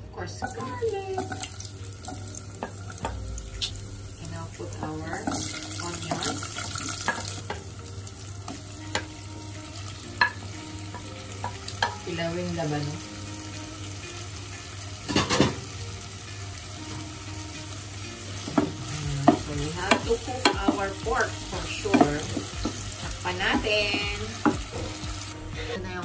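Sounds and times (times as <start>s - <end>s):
meat sizzling in hot oil: 0.4s - 26.0s.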